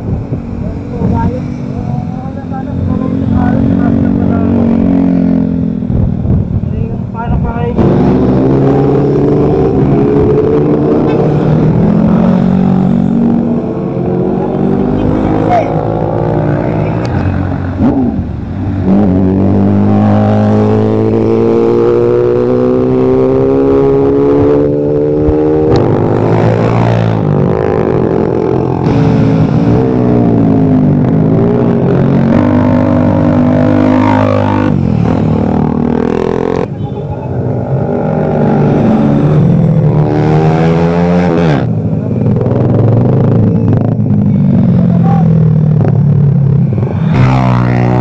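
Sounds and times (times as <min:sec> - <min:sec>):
motorcycle engines passing at speed: 0:00.0 - 0:48.0.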